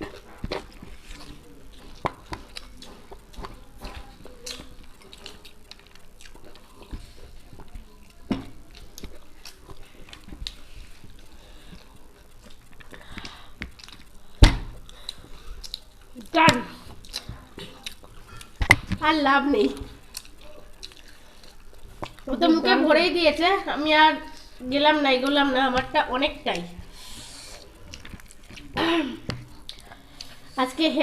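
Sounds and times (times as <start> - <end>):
chewing and wet mouth sounds: 0.0 - 22.3, 26.5 - 30.6.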